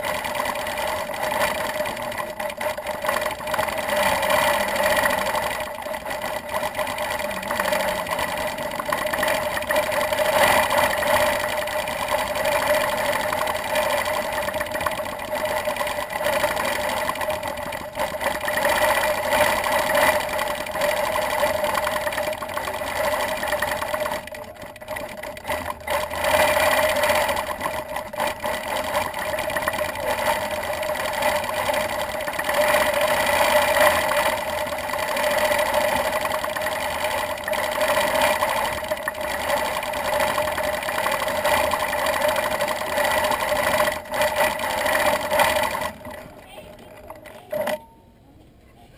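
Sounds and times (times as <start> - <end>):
quilting machine stitching: 0.0 - 47.8.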